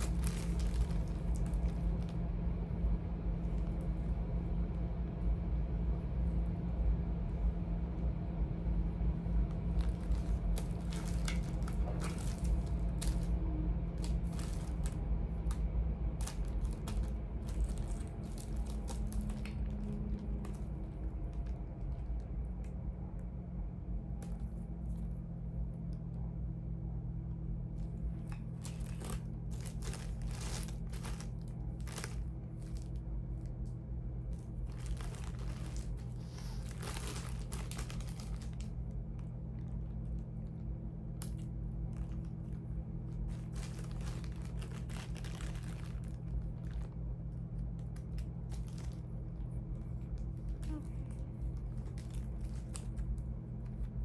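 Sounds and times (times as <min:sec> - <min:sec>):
cords rustling and crinkling: 0:00.0 - 0:23.2, 0:27.0 - 0:54.0
low hum: 0:00.0 - 0:54.0.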